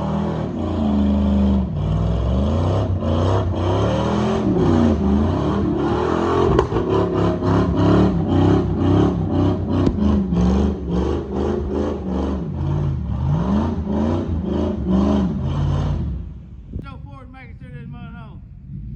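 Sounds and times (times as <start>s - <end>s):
car engine revving: 0.0s - 16.8s.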